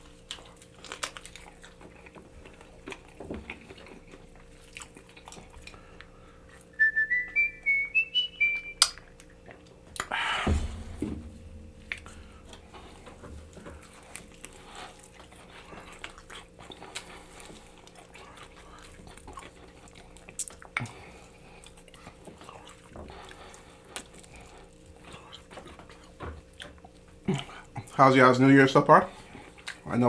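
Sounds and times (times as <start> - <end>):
wet chewing and smacking: 0.0 - 10.2, 13.7 - 28.0, 29.2 - 29.9
faint steady hum: 0.0 - 29.8.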